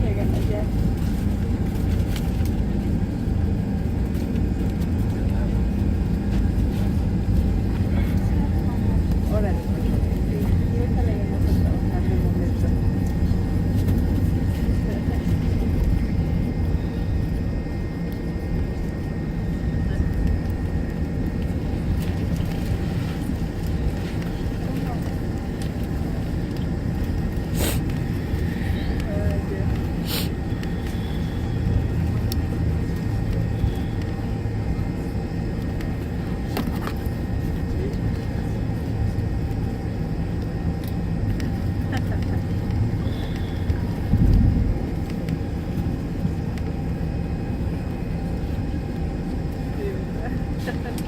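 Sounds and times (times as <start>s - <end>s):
jet engine low rumble: 0.0s - 51.0s.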